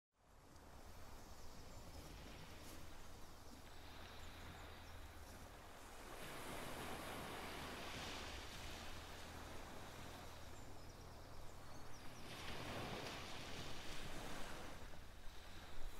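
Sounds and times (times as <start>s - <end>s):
distant surf: 1.7s - 15.9s.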